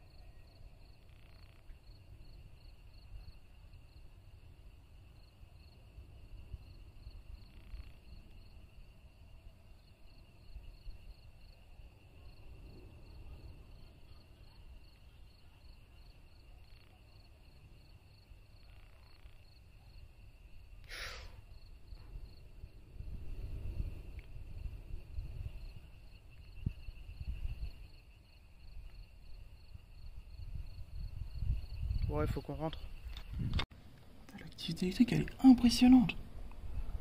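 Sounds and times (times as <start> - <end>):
high insect trill: 0.0 - 33.6, 34.2 - 37.0
crickets chirping: 0.0 - 37.0.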